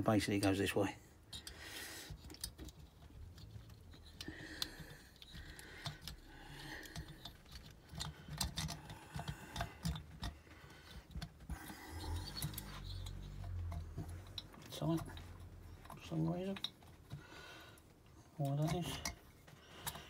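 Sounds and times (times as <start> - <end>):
faint clicks and metal knocks: 0.0 - 20.0.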